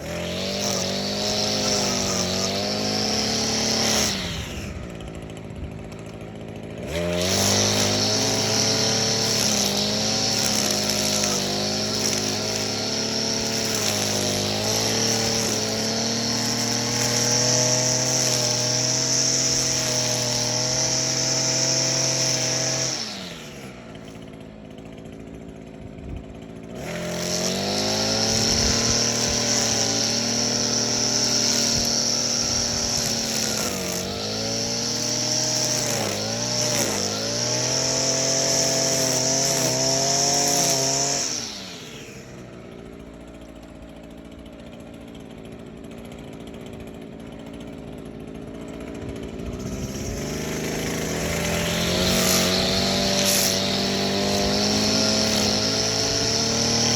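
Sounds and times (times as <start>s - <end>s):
string trimmer engine revving: 0.0s - 56.9s.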